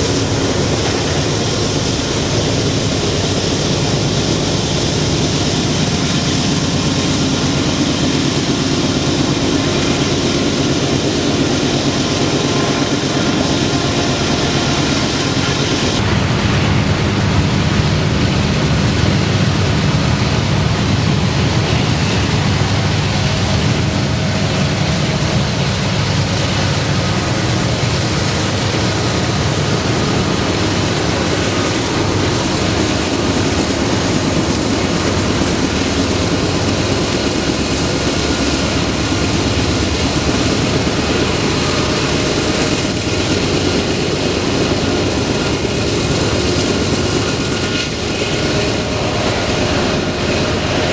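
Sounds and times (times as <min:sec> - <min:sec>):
freight train passing: 0:00.0 - 0:50.9
locomotive engine drone: 0:00.0 - 0:50.9.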